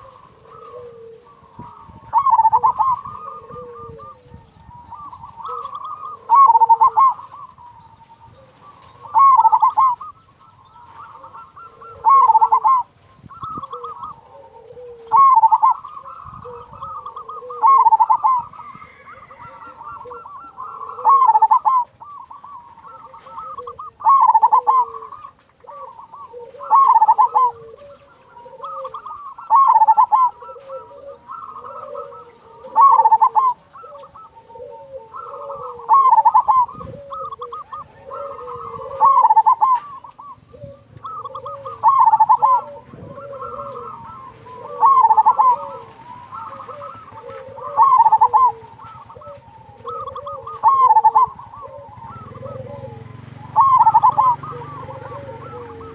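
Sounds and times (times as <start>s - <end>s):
dove bubbling call: 0.0s - 55.9s
doves cooing softly: 0.0s - 55.9s.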